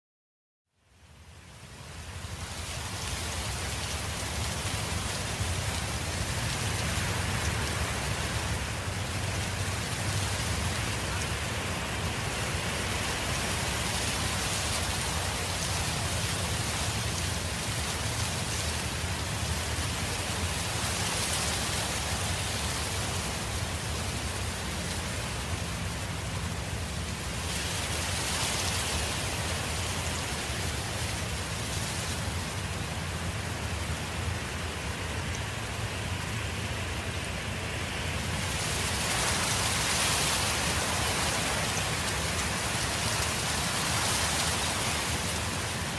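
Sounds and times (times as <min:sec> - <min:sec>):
wind through foliage: 0:00.7 - 0:45.9.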